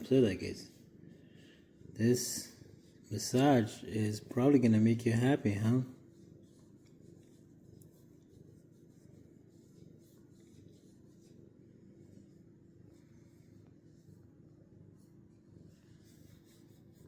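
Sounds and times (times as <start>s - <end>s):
hand rubbing cat fur: 0.0s - 17.0s.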